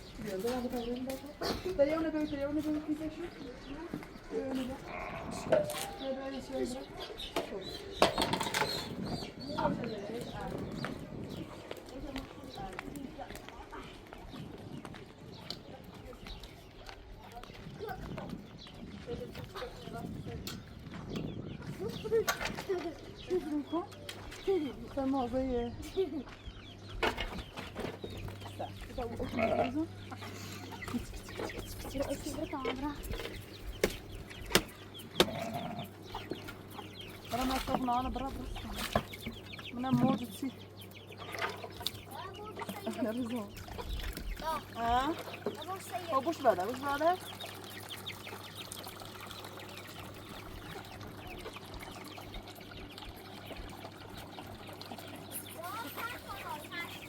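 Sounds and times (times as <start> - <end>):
birds chirping: 0.0 - 57.0
chickens clucking: 0.0 - 57.0.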